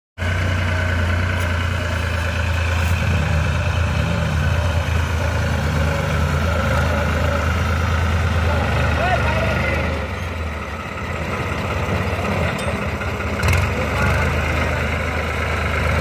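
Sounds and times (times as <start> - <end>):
diesel tractor engine under load: 0.2 - 16.0.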